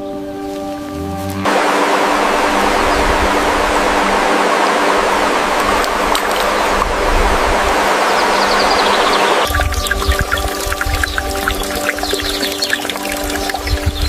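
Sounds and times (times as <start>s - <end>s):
faint steady hum: 0.5s - 14.0s
loud steady rushing noise: 0.8s - 14.0s.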